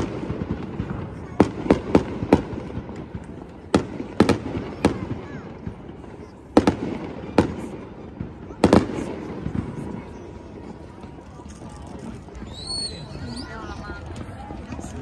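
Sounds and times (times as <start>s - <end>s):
fireworks bursting in sharp bangs: 0.0s - 15.0s.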